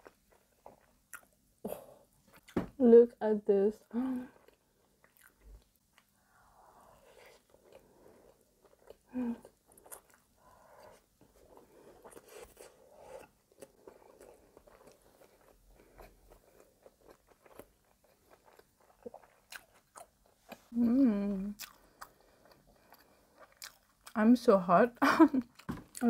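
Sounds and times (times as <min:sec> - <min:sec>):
person chewing food: 0:00.0 - 0:02.7, 0:04.3 - 0:24.2, 0:25.4 - 0:26.0.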